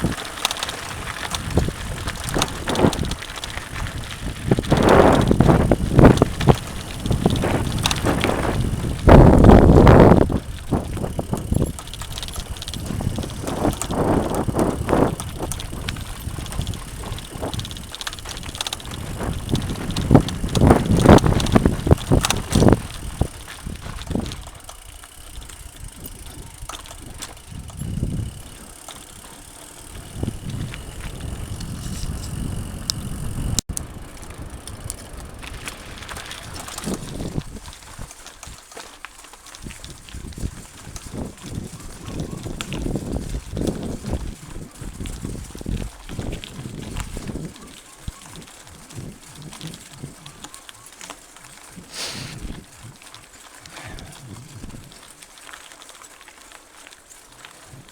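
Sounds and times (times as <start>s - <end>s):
bike tyres on dirt trail: 0.0s - 57.9s
knocks and rattles of bike: 0.0s - 57.9s.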